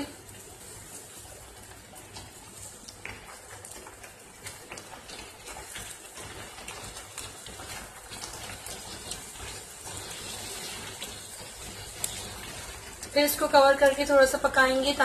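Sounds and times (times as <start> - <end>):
gravy sizzling in a pan: 0.0 - 15.0.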